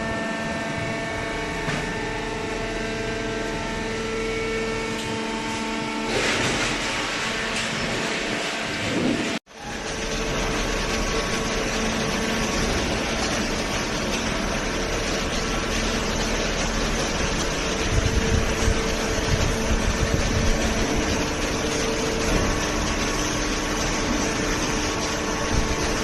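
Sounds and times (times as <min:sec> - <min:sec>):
hydraulic baler machine hum: 0:00.0 - 0:26.0.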